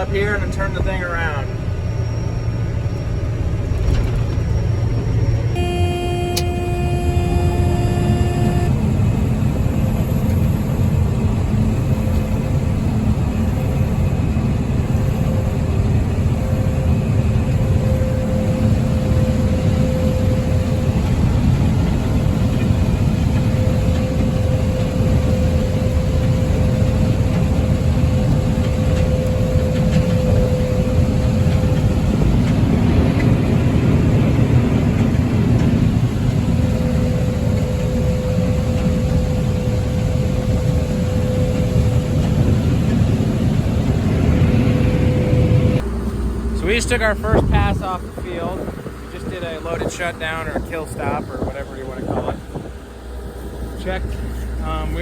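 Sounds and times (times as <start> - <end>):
combine harvester running: 0.0 - 55.0
steady machine whine: 0.0 - 55.0.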